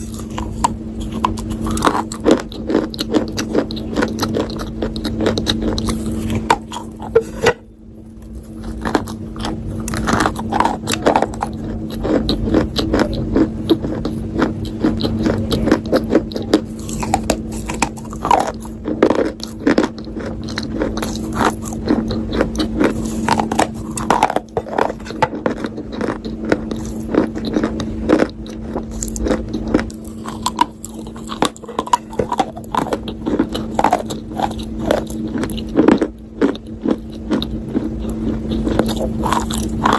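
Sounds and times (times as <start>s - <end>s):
crunchy chewing: 0.0s - 39.9s
low hum: 0.0s - 39.9s.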